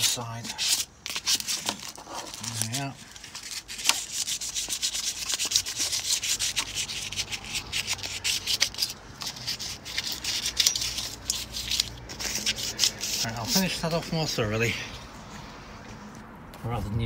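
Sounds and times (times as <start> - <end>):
hand sanding painted metal: 0.0 - 14.3.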